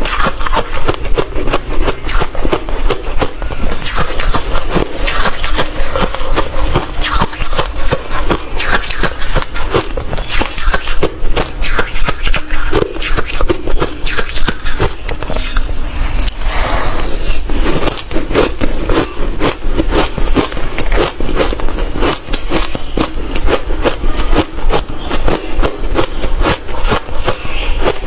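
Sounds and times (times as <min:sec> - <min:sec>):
chewing crunchy ice: 0:00.0 - 0:15.6, 0:17.3 - 0:28.0.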